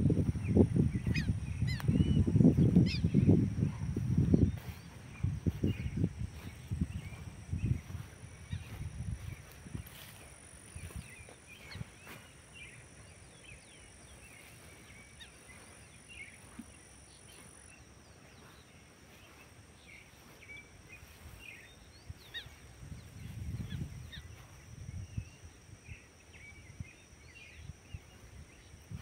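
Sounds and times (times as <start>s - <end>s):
birds chirping and calling: 0.0s - 25.3s.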